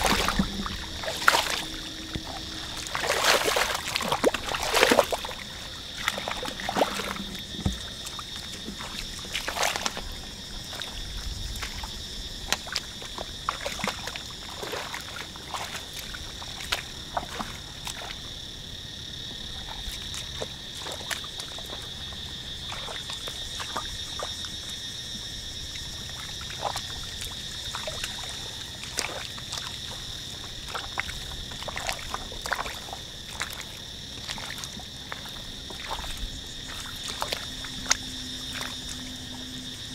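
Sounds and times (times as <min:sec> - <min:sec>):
splashes in muddy water: 0:00.0 - 0:18.6, 0:19.2 - 0:39.9.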